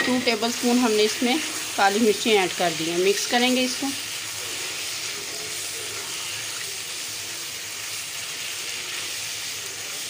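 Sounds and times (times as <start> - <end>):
chickpeas sizzling in oil: 0.0 - 10.0.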